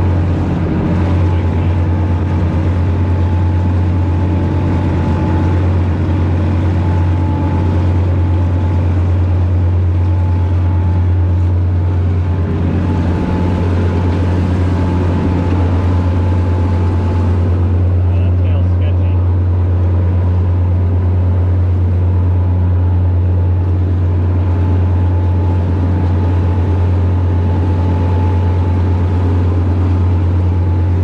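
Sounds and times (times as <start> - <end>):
boat engines droning: 0.0 - 31.0
faint steady whine: 0.0 - 31.0.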